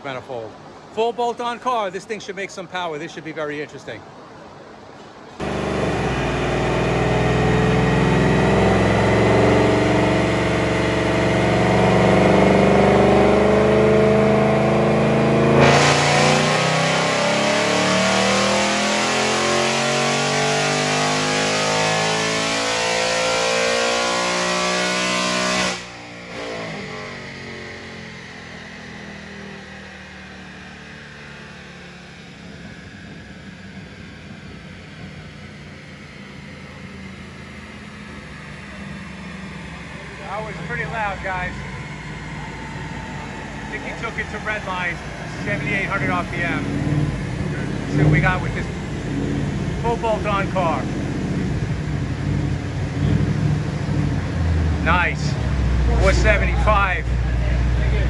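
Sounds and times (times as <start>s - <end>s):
engine and rollers winding down: 5.4s - 24.7s, 25.3s - 58.0s
engine revving at full throttle: 5.4s - 58.0s.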